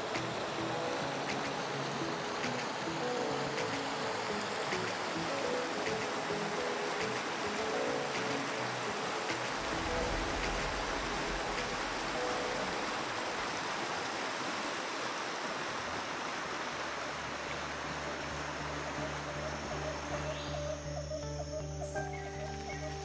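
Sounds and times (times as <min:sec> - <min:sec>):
soft background music: 0:00.0 - 0:15.7, 0:16.3 - 0:23.0
flowing creek water: 0:00.0 - 0:23.0.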